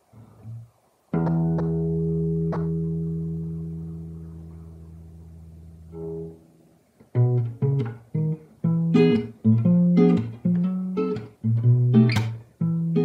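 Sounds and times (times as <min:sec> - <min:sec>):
acoustic guitar fingerpicking: 0:00.4 - 0:04.9, 0:07.0 - 0:13.0.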